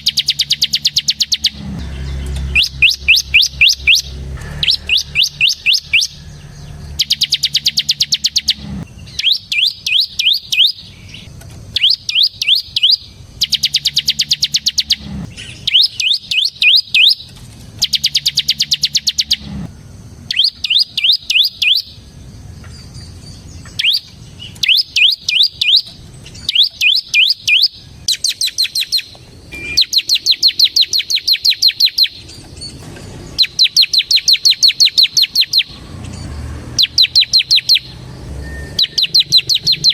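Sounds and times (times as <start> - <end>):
bird singing rapid high notes: 0.0 - 19.7, 20.3 - 22.2, 22.8 - 39.9.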